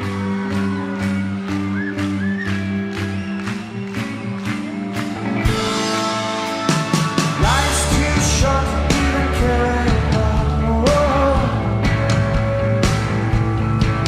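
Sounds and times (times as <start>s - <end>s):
guitar: 0.0s - 14.0s
live rock band playing: 0.0s - 14.0s.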